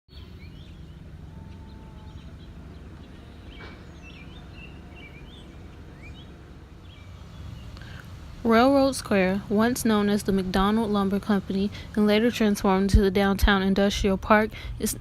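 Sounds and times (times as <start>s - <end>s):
small birds chirping: 0.1s - 12.9s
steady low rumble: 0.2s - 15.0s.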